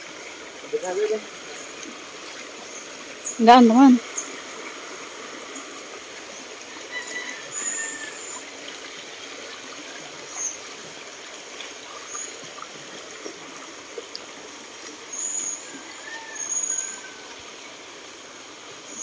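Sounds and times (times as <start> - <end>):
stream trickling over stones: 0.0 - 19.0.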